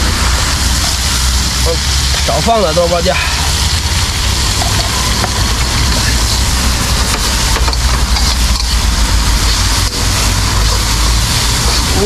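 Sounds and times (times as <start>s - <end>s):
burner low rumble: 0.0s - 12.0s
food sizzling in hot oil: 0.0s - 12.0s.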